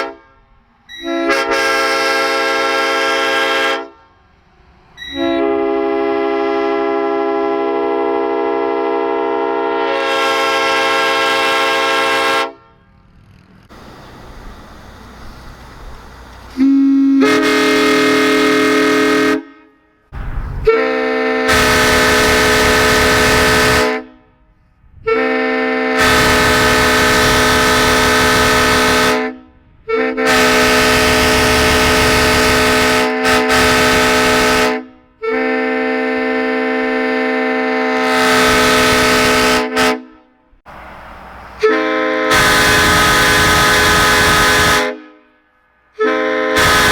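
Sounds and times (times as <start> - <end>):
horns blowing long chord blasts: 0.0 - 46.9.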